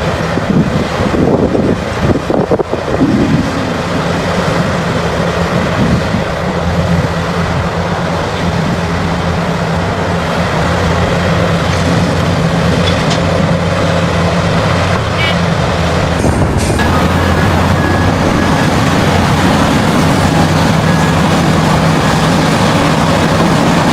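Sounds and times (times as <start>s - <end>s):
diesel machinery engine drone: 0.0s - 23.9s
mechanical rumble: 0.0s - 23.9s.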